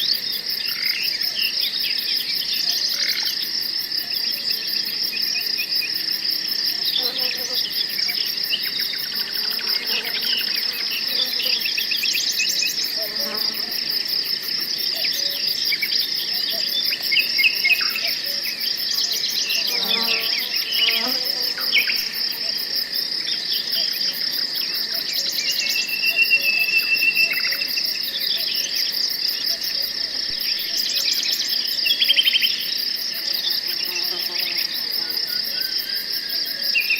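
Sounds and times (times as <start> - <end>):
crickets and insects chirring: 0.0 - 36.9.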